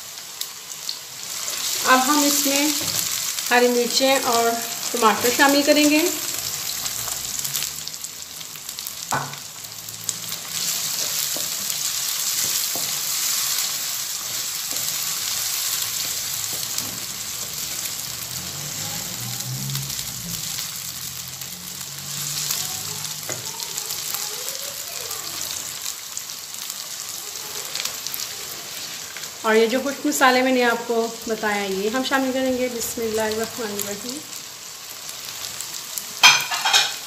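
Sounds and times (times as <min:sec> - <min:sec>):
vegetables sizzling in hot oil: 0:00.0 - 0:37.0.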